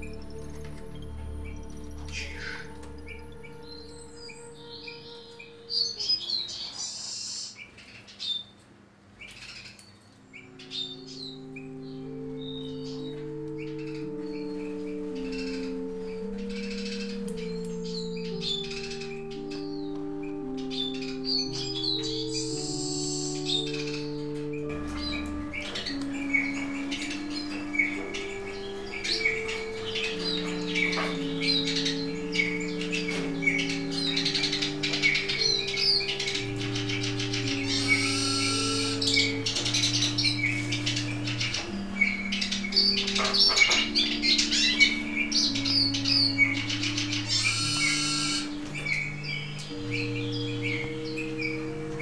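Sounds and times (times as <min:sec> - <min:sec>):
soft background music: 0:00.0 - 0:07.6, 0:09.2 - 0:52.0
finches chirping: 0:00.0 - 0:08.6, 0:09.2 - 0:52.0.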